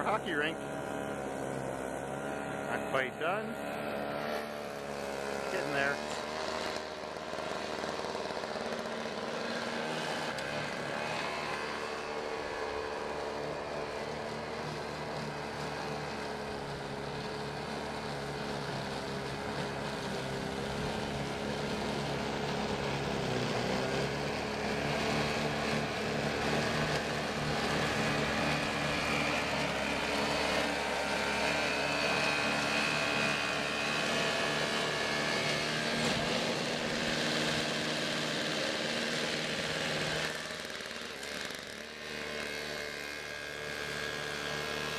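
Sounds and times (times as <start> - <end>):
snowblower engine running: 0.0 - 44.9.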